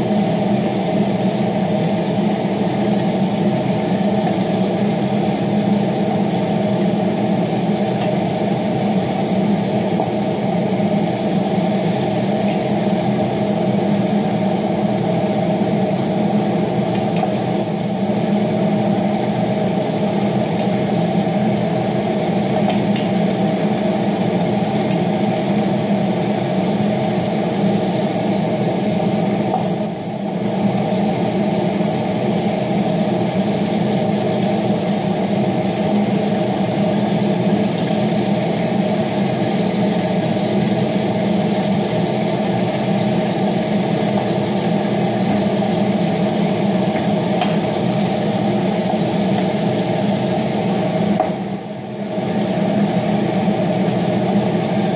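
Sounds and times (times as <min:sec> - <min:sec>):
range hood fan humming: 0:00.0 - 0:54.9.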